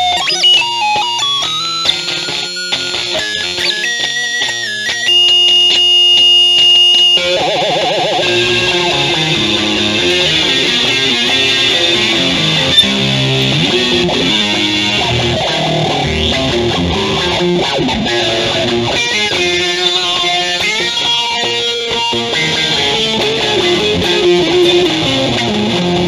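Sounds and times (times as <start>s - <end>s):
dub jam with electric guitar: 0.0s - 26.0s.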